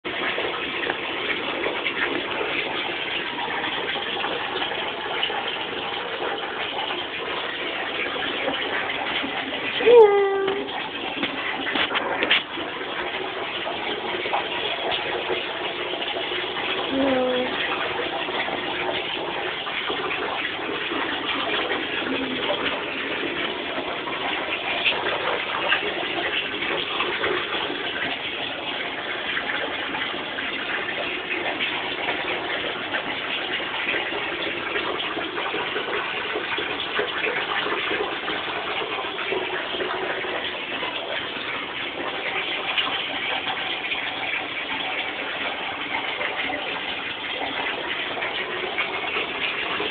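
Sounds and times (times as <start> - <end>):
tap water running into bathtub: 0.0 - 49.9.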